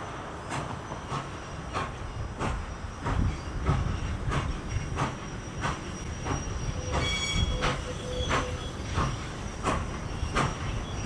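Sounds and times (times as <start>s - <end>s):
low rumble of moving train: 0.0s - 11.0s
steam locomotive exhaust chuffs: 0.1s - 11.0s.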